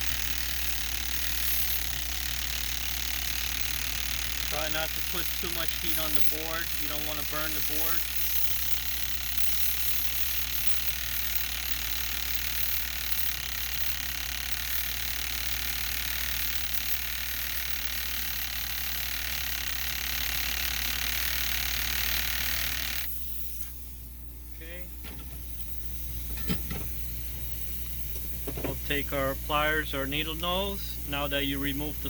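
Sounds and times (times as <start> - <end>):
desoldering tool whirring hiss: 0.0 - 32.0.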